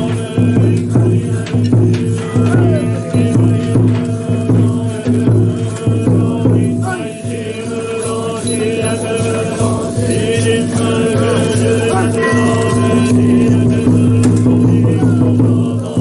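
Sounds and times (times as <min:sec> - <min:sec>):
many voices chanting: 0:00.0 - 0:16.0.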